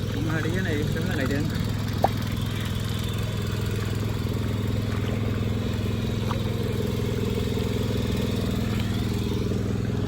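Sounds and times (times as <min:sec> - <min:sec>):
small engine running steadily: 0:00.0 - 0:10.0.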